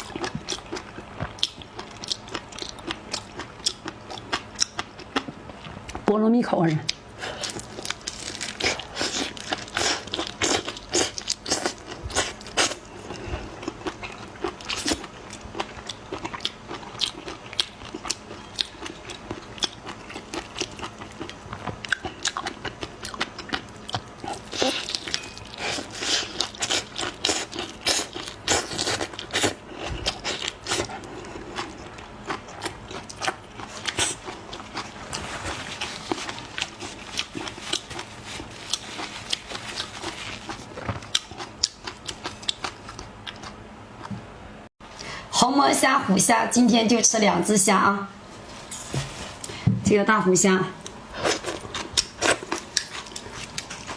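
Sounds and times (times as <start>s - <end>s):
crunching and chewing crisp food: 0.0s - 6.1s, 6.8s - 44.1s, 50.8s - 53.9s.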